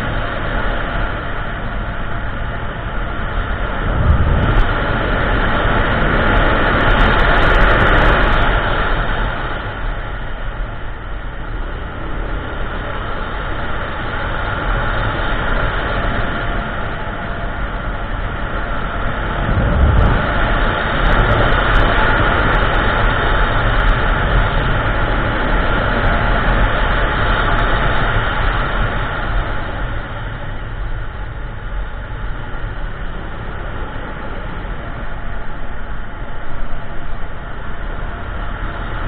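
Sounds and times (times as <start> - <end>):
scooter engine droning: 0.0 - 39.0
wind and road noise: 0.0 - 39.0.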